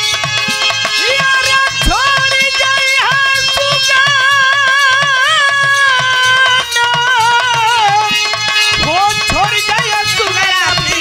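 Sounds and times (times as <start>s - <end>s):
harmonium: 0.0s - 11.0s.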